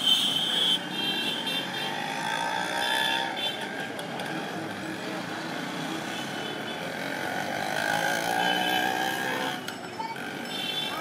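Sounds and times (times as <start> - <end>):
scooters and rickshaws passing: 0.0 - 11.0.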